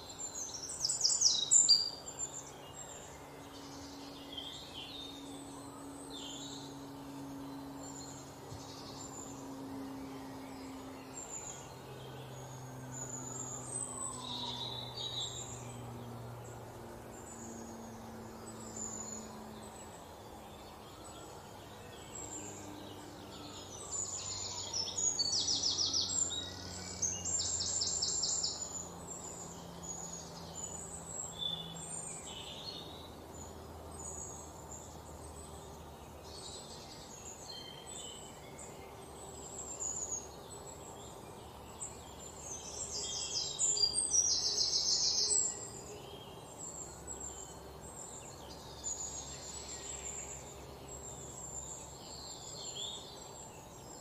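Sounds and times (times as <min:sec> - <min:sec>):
birds chirping: 0:00.0 - 0:54.0
faint low humming tones: 0:00.0 - 0:54.0.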